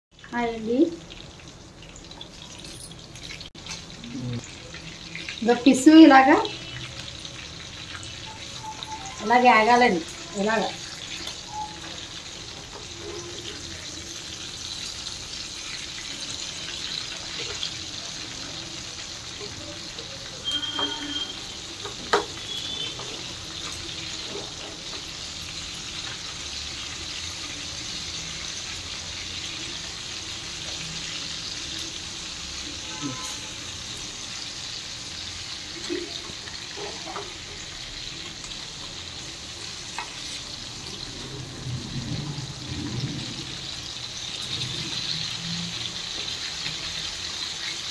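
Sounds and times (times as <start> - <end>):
fish sizzling in hot oil: 0.1 - 47.9.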